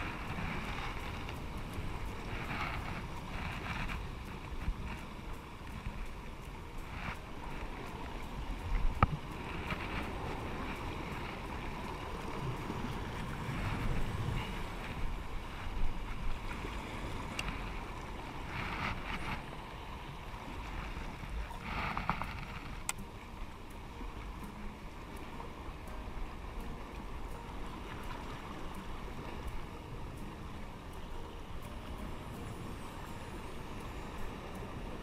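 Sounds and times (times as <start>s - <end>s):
waves splashing against rocks: 0.0s - 35.0s
wind on microphone: 0.0s - 35.0s.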